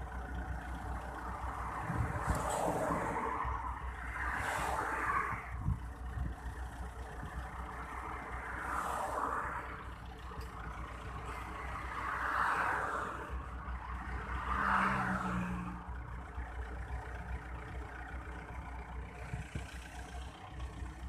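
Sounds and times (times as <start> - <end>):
diesel truck engines idling: 0.0 - 21.0
highway traffic passing: 0.0 - 21.0.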